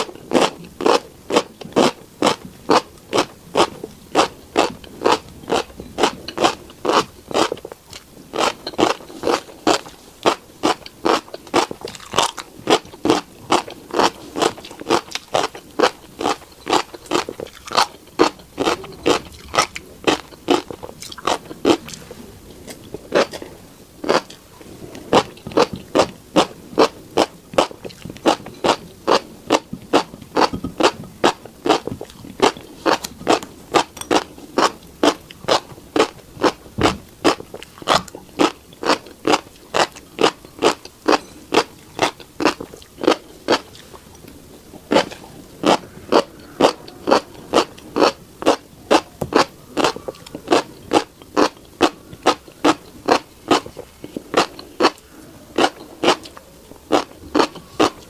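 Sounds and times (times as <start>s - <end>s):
chewing crunchy seeds: 0.0s - 58.0s.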